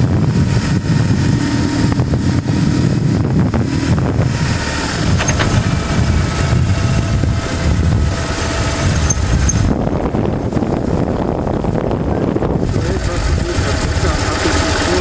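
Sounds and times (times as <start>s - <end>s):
motorcycle engine running: 0.0s - 15.0s
wind rush on microphone: 0.0s - 15.0s.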